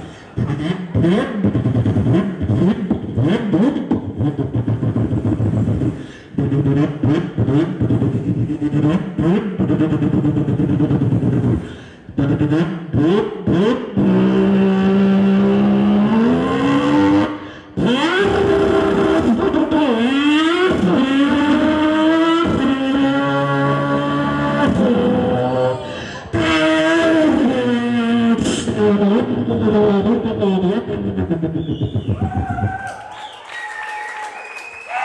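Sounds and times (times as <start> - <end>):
man imitating car engine: 0.0 - 32.2.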